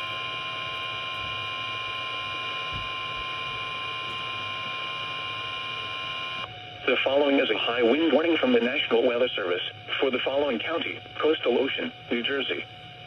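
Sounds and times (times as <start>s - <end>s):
steady alarm tone from speaker: 0.0s - 13.0s.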